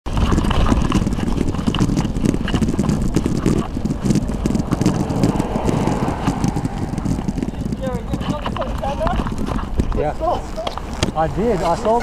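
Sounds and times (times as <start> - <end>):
road rumble: 0.1 - 11.2
wind buffeting microphone: 0.1 - 12.0.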